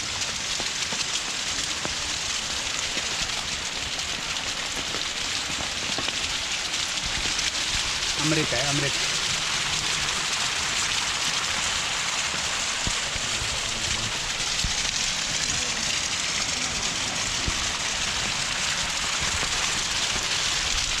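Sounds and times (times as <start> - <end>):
small waterfall splashing: 0.0 - 21.0.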